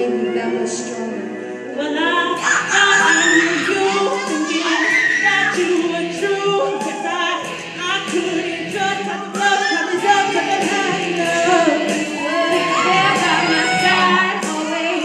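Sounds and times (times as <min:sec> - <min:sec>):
woman singing pop song live: 0:00.0 - 0:15.0.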